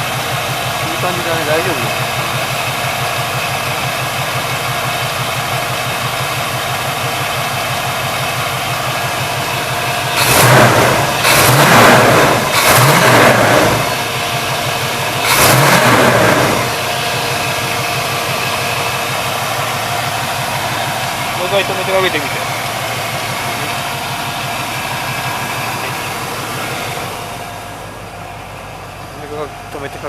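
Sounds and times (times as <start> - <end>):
car engine revving at high idle: 0.0 - 30.0.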